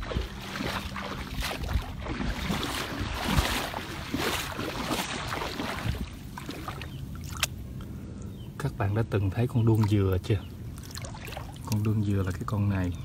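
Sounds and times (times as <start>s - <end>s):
floodwater sloshing and splashing: 0.0s - 7.9s, 9.4s - 12.7s.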